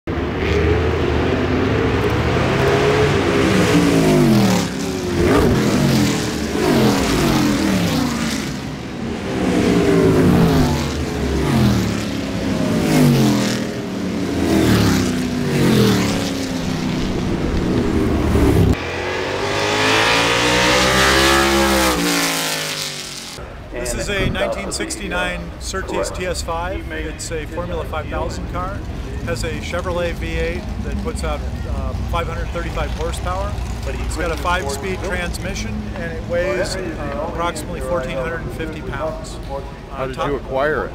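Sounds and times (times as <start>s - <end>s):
race car accelerating: 0.1s - 23.4s, 24.1s - 40.4s
racing cars passing by: 0.1s - 40.9s.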